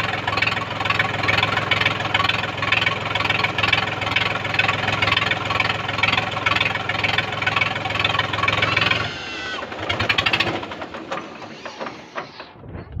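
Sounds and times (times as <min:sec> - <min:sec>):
engine knocking: 0:00.0 - 0:12.6
tractor engine running: 0:00.0 - 0:13.0.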